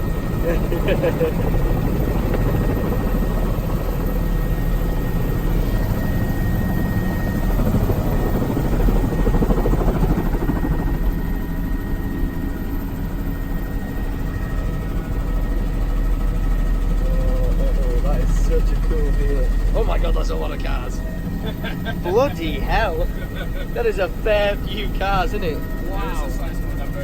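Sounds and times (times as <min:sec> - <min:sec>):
helicopter rotor and engine rumble: 0:00.0 - 0:27.0
thin steady whine: 0:00.0 - 0:27.0.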